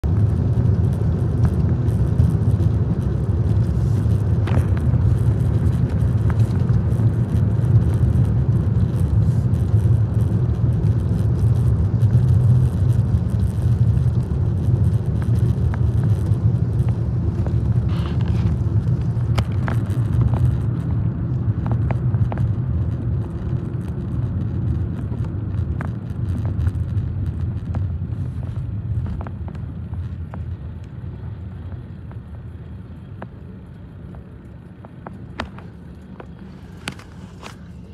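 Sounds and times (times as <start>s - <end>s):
car road and engine rumble: 0.0s - 37.9s.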